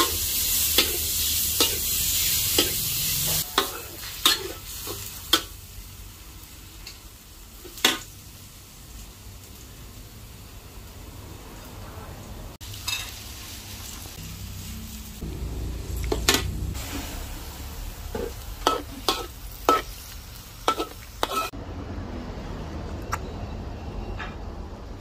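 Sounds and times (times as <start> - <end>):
food sizzling in a pan: 0.0 - 11.8, 12.5 - 21.6.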